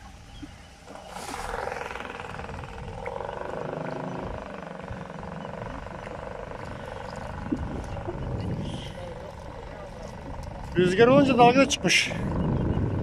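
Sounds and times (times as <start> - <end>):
small boat motor: 0.4 - 12.7.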